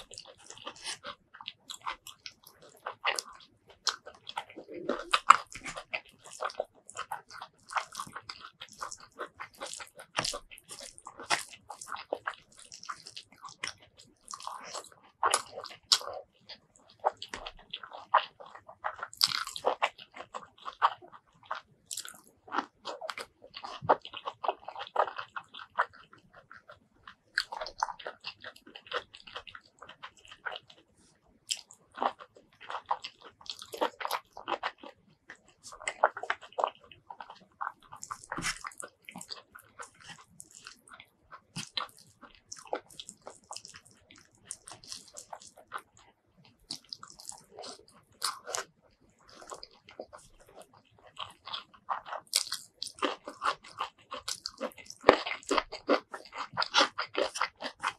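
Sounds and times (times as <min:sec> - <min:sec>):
crunching vegetable bites: 0:00.0 - 0:30.8, 0:31.5 - 0:57.9
wet chewing: 0:00.0 - 0:57.9.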